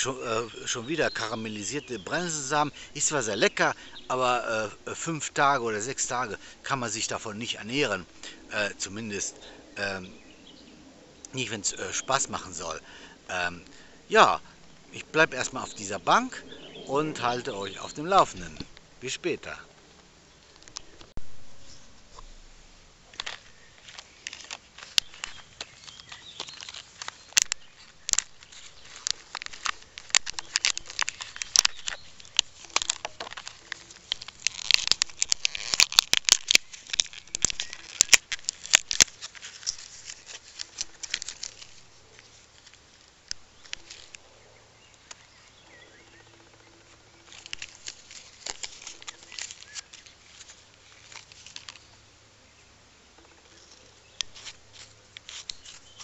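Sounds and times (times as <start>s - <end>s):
plastic blister pack crinkling: 0.5s - 10.2s, 11.2s - 19.7s, 20.4s - 21.1s, 23.1s - 44.3s, 47.2s - 52.0s, 53.6s - 56.0s.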